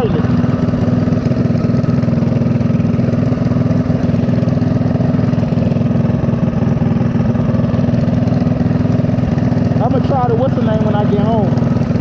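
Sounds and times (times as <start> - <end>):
mini bike engine running: 0.0 - 12.0.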